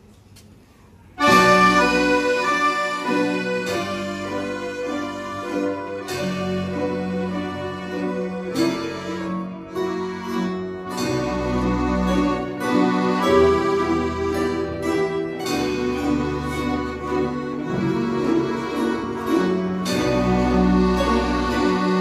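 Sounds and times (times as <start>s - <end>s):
accordion chords: 1.2s - 22.0s.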